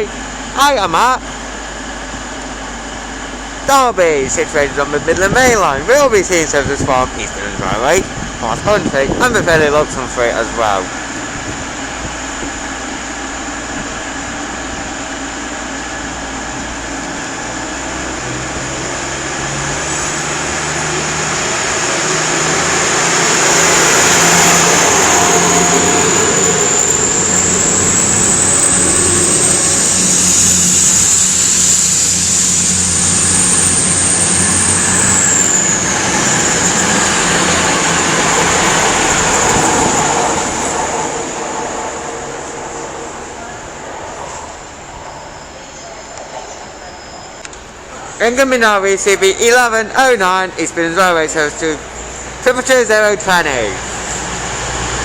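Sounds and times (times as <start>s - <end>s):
diesel train engine hum: 0.0s - 55.0s
high whine: 0.0s - 55.0s.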